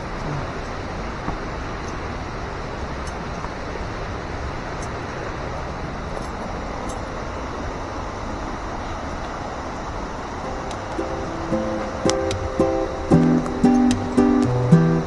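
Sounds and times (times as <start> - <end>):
steady rushing water: 0.0 - 15.0.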